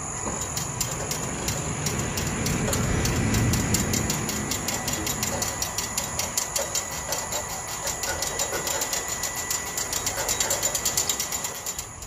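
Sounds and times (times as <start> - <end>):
winch motor whining and clicking: 0.0 - 12.0.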